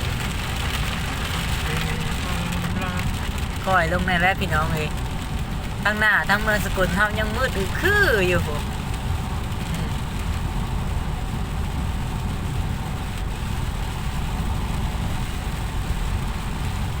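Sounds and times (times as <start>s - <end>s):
car engine and road rumble: 0.0s - 17.0s
rain and spray hissing: 0.0s - 17.0s.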